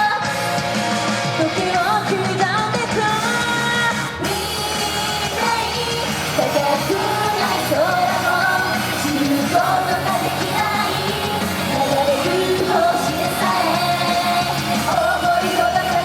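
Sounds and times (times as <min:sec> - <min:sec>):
women singing: 0:00.0 - 0:00.6, 0:01.4 - 0:16.0
loud pop backing track: 0:00.0 - 0:16.0.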